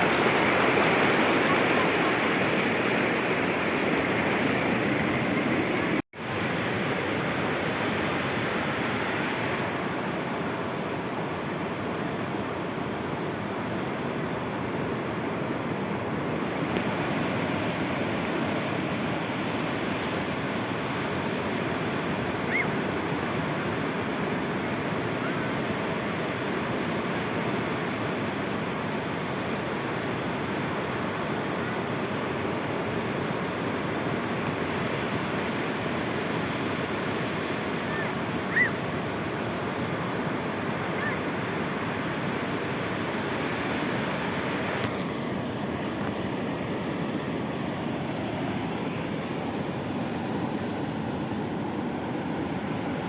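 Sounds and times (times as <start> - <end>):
sea waves washing on shore: 0.0 - 53.0.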